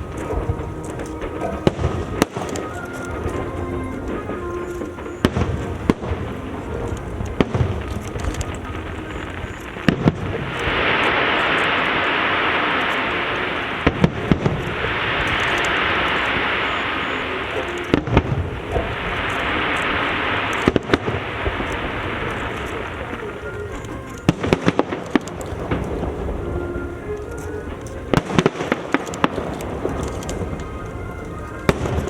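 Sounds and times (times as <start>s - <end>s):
fireworks crackling hiss: 0.0s - 32.0s
fireworks shells booming: 0.0s - 32.0s.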